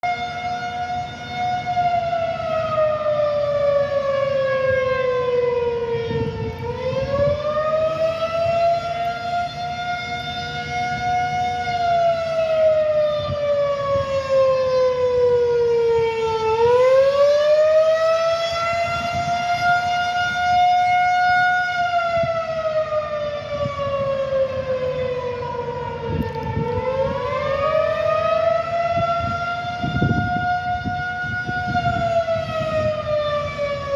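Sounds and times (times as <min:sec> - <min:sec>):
tornado siren wailing: 0:00.0 - 0:33.9.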